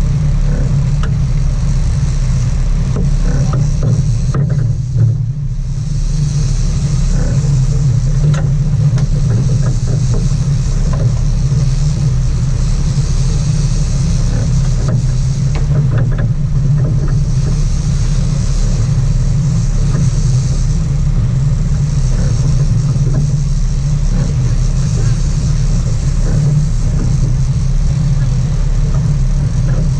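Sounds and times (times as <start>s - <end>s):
boat engine droning: 0.0s - 29.9s
water hissing: 0.0s - 29.9s
wind: 0.0s - 29.9s.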